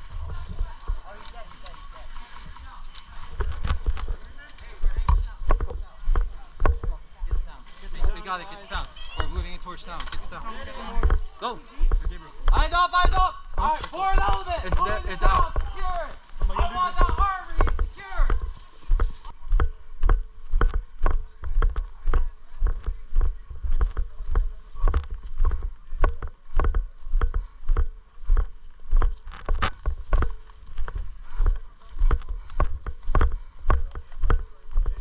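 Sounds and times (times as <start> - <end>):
footsteps jogging: 0.0 - 35.0.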